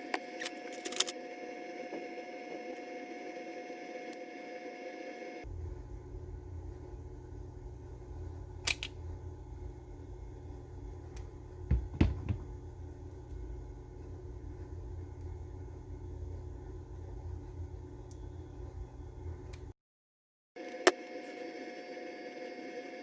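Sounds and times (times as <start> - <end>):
steady low hum: 0.0 - 19.8.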